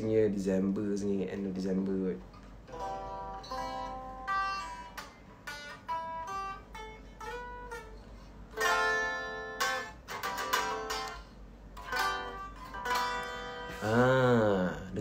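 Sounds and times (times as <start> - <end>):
clean electric guitar: 2.2 - 15.0.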